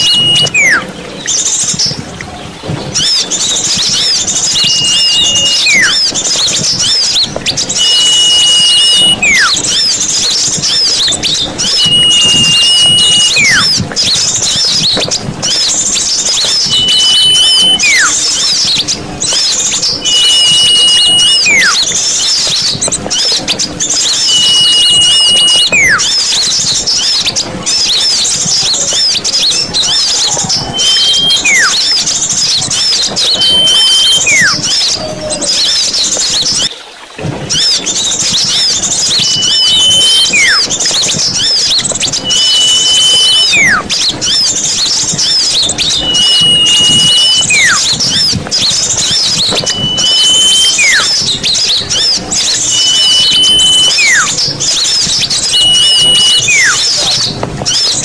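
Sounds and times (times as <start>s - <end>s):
bird whistle with falling note: 0.0s - 2.0s, 3.0s - 36.7s, 37.3s - 58.0s
small birds twittering: 0.0s - 58.0s.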